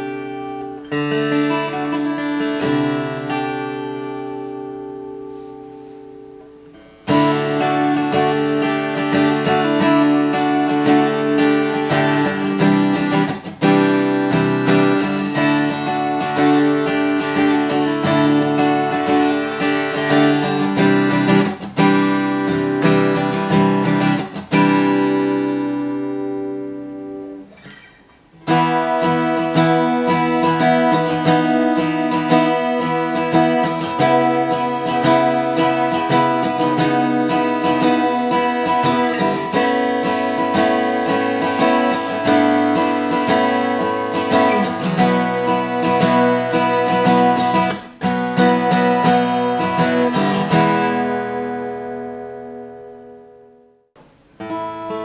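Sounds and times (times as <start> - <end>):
acoustic guitar strummed chords: 0.0 - 55.0.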